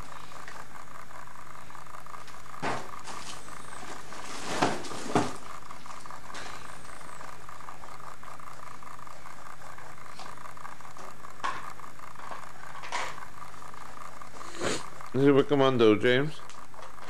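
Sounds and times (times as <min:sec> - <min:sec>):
faint hum: 0:00.0 - 0:17.0
steady hiss: 0:00.0 - 0:17.0.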